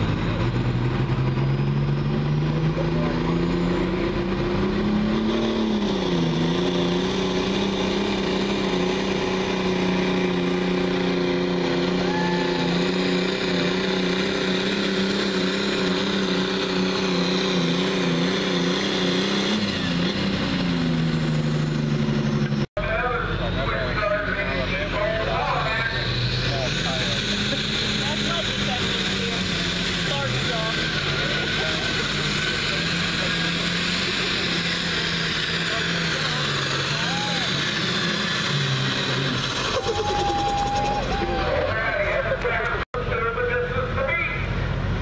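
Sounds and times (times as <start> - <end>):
diesel engine at full power: 0.0 - 45.0.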